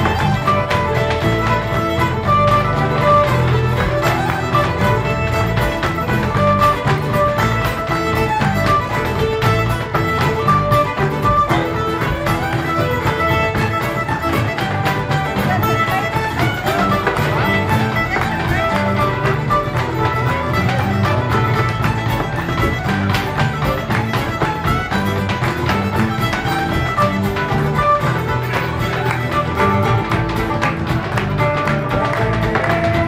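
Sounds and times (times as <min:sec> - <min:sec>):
fiddle melody: 0:00.0 - 0:33.0
mandolin playing: 0:00.0 - 0:33.0
steady tapping beat: 0:00.0 - 0:33.0.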